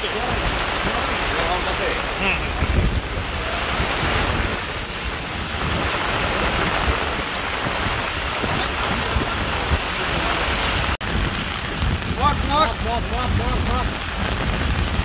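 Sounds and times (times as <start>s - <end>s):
heavy rain on water and wood: 0.0s - 15.0s.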